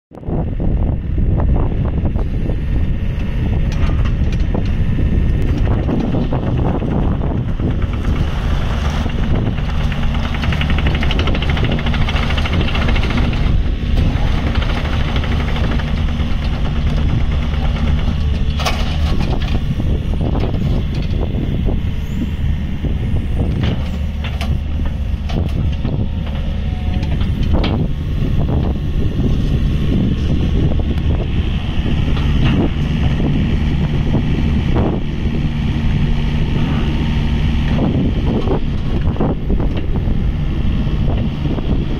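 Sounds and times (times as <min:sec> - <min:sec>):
excavator diesel engine running: 0:00.2 - 0:41.9.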